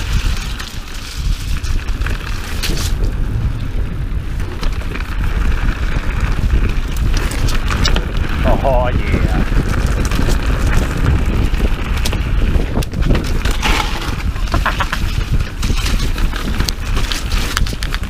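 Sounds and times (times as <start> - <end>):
bike clicks and rattles: 0.0 - 18.0
tyres rumbling on dirt trail: 0.0 - 18.0
wind on microphone: 0.0 - 18.0.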